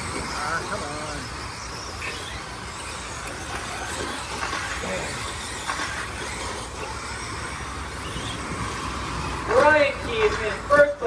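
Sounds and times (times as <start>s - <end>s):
motor whines: 0.0s - 11.0s
rc truck motors and tyres hissing: 0.0s - 11.0s.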